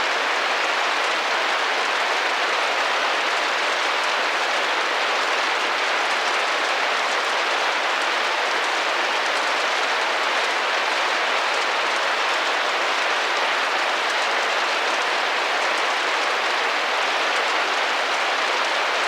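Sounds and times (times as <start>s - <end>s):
rain on a glass window: 0.0s - 19.0s.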